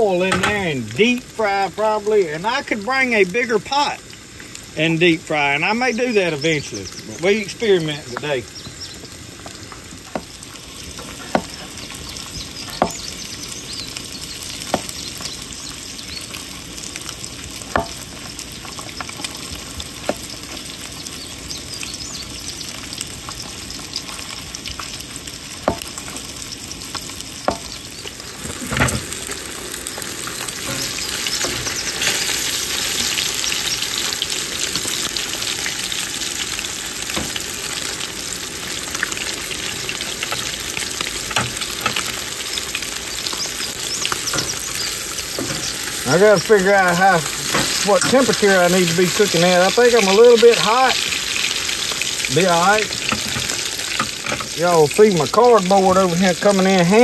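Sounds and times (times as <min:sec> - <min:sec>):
fish fillets sizzling in oil: 0:00.0 - 0:57.0.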